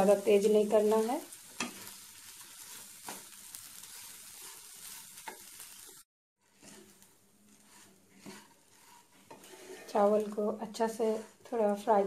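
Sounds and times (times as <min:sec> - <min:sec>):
rice sizzling in a pan: 0:00.0 - 0:12.0
wooden spatula scraping: 0:00.0 - 0:12.0.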